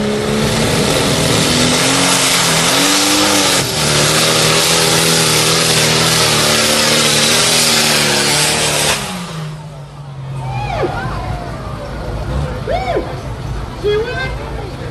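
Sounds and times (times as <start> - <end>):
tractor engine at full throttle: 0.0 - 14.9.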